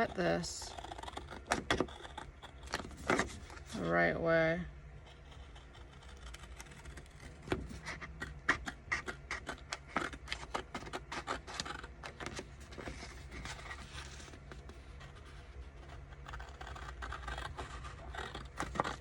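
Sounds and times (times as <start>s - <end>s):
scissors cutting paper: 0.0s - 4.2s, 5.0s - 19.0s.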